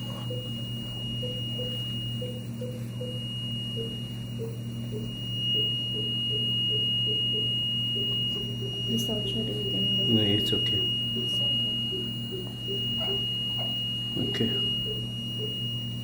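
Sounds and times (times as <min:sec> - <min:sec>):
low equipment hum: 0:00.0 - 0:16.0
pulse oximeter beeping: 0:00.0 - 0:16.0
steady high-pitched tone: 0:00.0 - 0:16.0.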